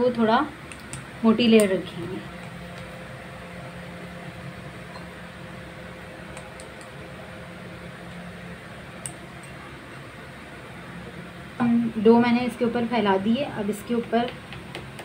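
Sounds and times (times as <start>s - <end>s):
appliance hum and hiss: 0.0s - 15.0s.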